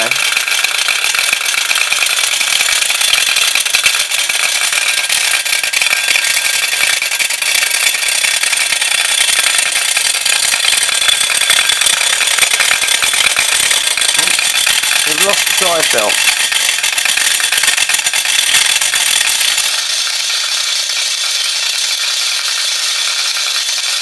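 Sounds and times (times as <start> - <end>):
small machines rattling: 0.0 - 24.0
toy steam engine: 0.0 - 24.0.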